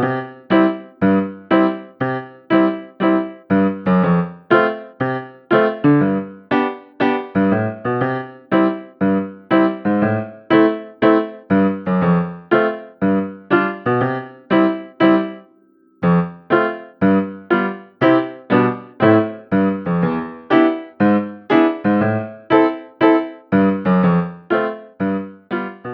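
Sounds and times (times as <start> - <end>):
bright keyboard tune: 0.0 - 25.9.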